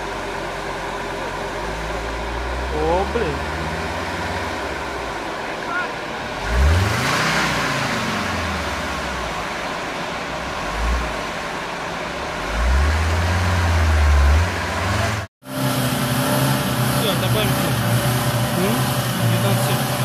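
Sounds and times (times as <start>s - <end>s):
engine revving: 0.0s - 20.0s
engine running steadily: 0.0s - 20.0s.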